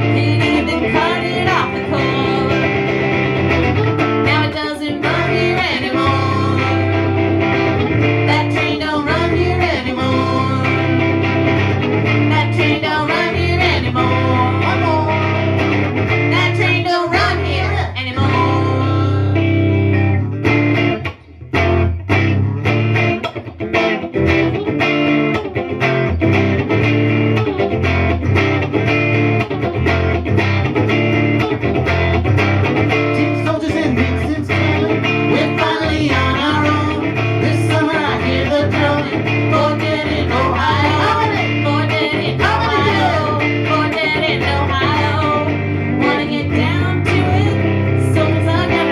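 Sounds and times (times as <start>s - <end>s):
plucked guitar melody: 0.0s - 48.9s
steady bass: 0.0s - 48.9s.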